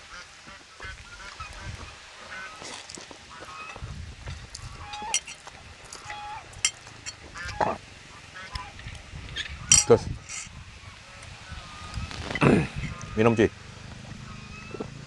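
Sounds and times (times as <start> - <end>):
fowl honking: 0.0 - 3.8, 4.6 - 6.5, 7.3 - 15.0.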